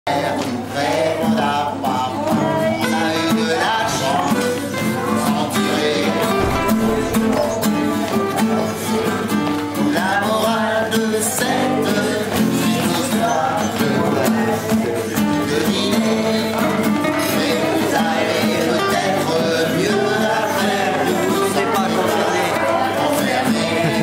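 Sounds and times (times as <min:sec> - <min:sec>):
group of people singing: 0:00.1 - 0:24.0
acoustic guitar strumming: 0:01.3 - 0:24.0.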